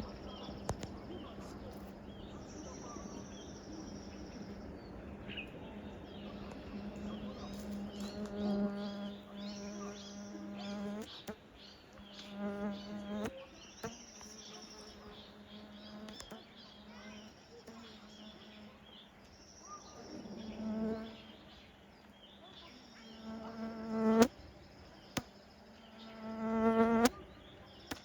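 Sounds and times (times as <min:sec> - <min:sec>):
insect buzzing: 0:00.0 - 0:11.4, 0:12.0 - 0:19.2, 0:19.9 - 0:21.7, 0:22.4 - 0:28.0.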